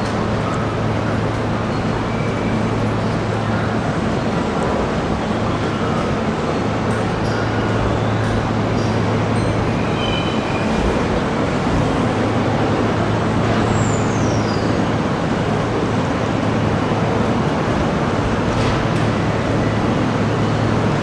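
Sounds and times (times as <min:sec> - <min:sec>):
electric train rolling slowly: 0:00.0 - 0:21.0.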